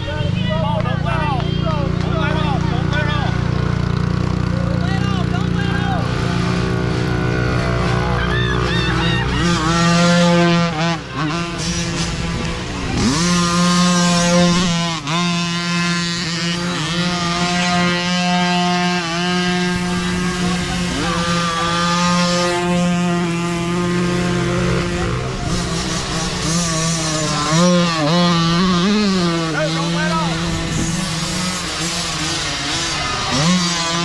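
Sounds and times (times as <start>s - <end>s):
dirt bike revving close: 0.0s - 34.0s
high-pitched dirt bikes buzzing: 0.0s - 34.0s.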